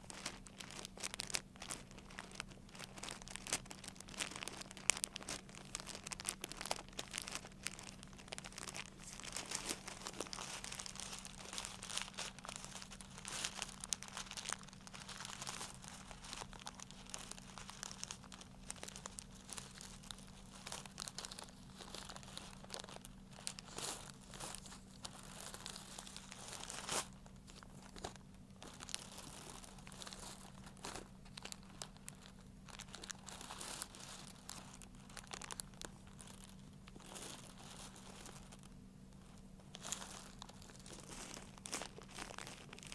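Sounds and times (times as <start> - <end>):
crinkling material crackles: 0.0 - 42.9.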